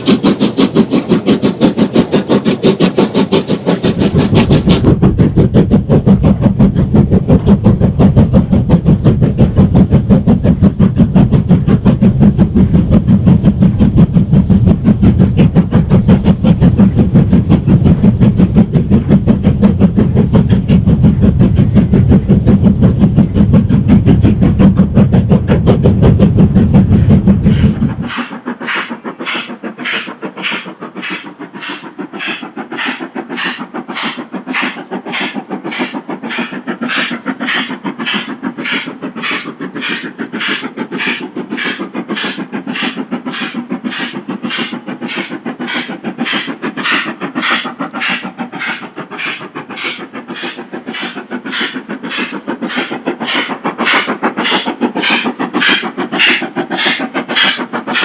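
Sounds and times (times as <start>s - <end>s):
locomotive exhaust beats: 0.0s - 58.0s
steam locomotive rumble: 0.0s - 58.0s.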